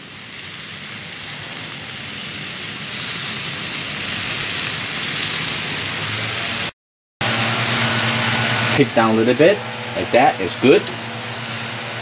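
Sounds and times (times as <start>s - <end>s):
sausages sizzling on a grill: 0.0s - 12.0s.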